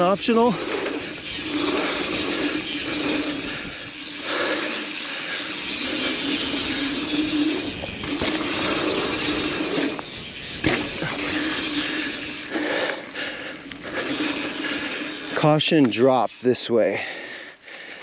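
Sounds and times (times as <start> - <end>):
bike freehub buzzing: 0.0 - 18.0
tyres on dirt trail: 0.0 - 18.0.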